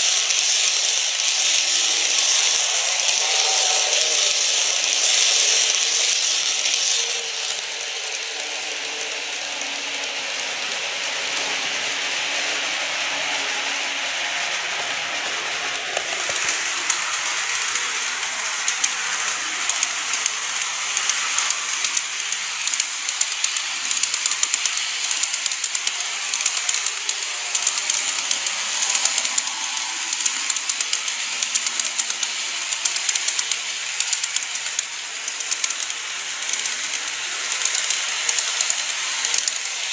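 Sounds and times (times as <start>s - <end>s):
model train whirring: 0.0s - 39.9s
wheels clicking over rail joints: 0.0s - 39.9s.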